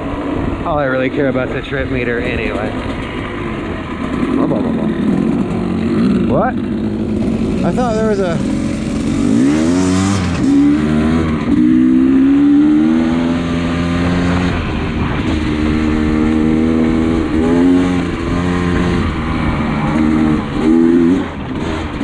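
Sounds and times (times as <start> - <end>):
dirt bike engine revving: 2.4 - 22.0.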